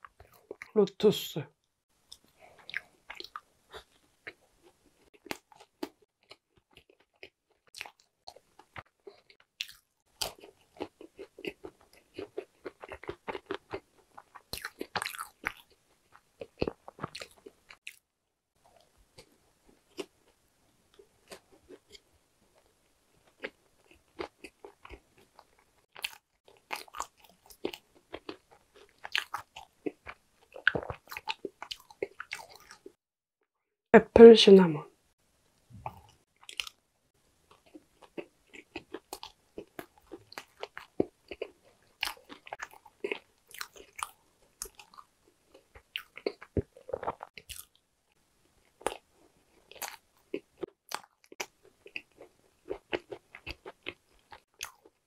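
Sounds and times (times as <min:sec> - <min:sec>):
crunchy chewing: 0:02.1 - 0:18.0, 0:18.6 - 0:33.0, 0:35.8 - 0:36.8, 0:37.5 - 0:47.8, 0:48.6 - 0:55.0.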